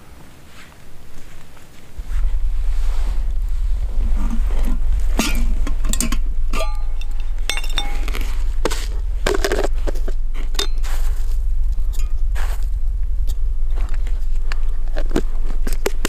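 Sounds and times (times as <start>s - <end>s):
wind rumble on microphone: 0.7s - 16.0s.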